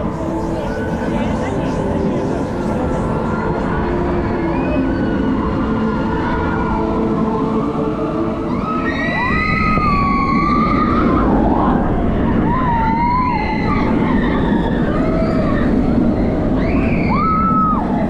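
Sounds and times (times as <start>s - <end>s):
roller coaster track rumble: 0.0s - 18.0s
wind rush: 0.0s - 18.0s.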